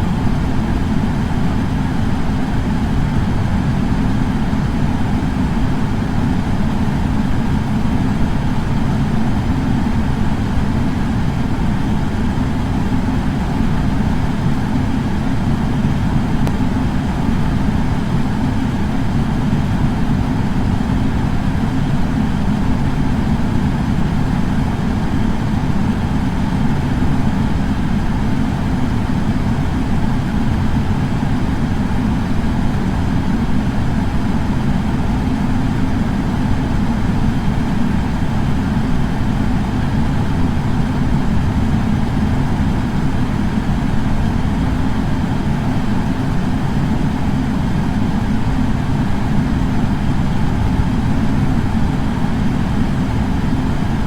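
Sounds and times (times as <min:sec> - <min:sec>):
air purifier fan humming: 0:00.0 - 0:54.0.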